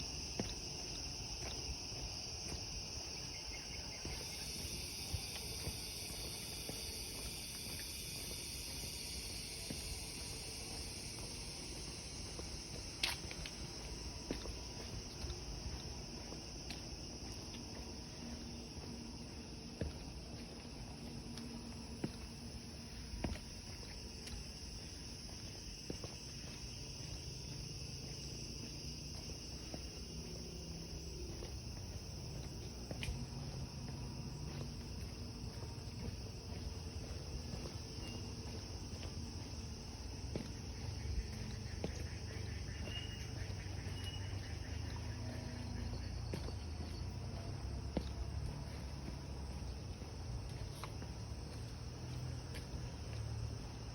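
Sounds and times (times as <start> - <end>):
forest insects droning: 0.0 - 53.9.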